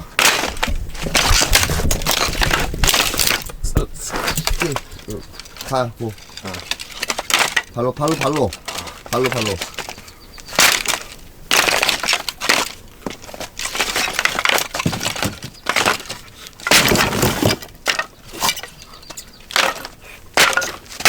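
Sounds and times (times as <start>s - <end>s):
dry branches snapping underfoot: 0.0s - 21.0s.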